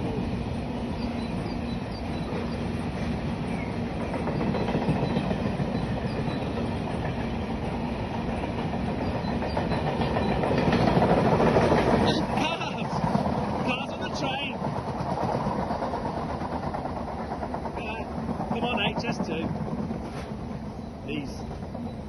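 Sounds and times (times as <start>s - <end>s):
train wagons on rails: 0.0s - 22.0s.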